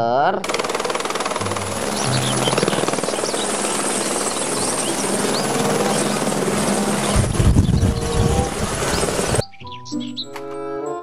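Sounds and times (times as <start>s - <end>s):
helicopter rotor chopping: 0.4s - 9.4s.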